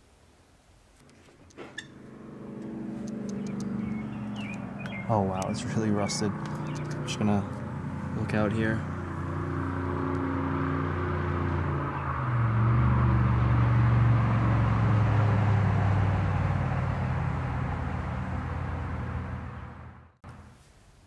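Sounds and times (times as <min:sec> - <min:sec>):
engine passing by: 0:01.1 - 0:20.4.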